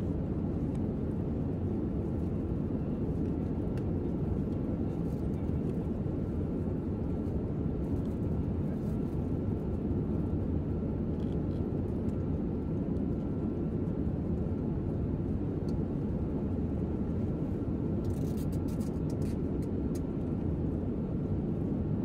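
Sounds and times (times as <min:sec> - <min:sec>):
airliner engine and airflow rumble: 0:00.0 - 0:22.0
faint steady whine: 0:00.0 - 0:22.0.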